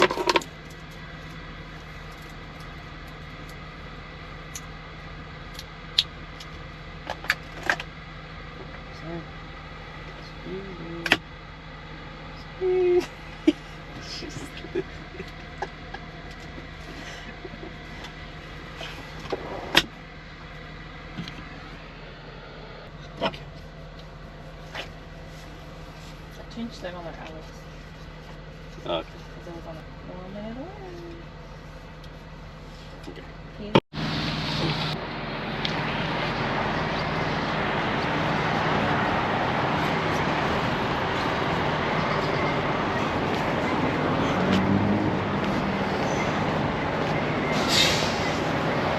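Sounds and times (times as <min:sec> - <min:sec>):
vehicle cab hum: 0:00.0 - 0:48.9.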